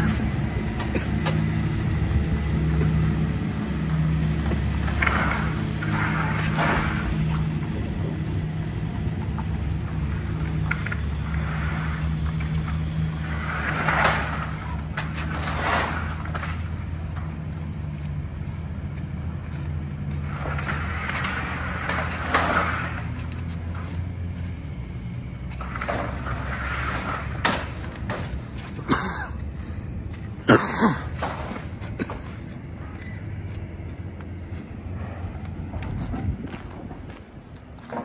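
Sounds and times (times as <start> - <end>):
truck engine droning: 0.0 - 38.0.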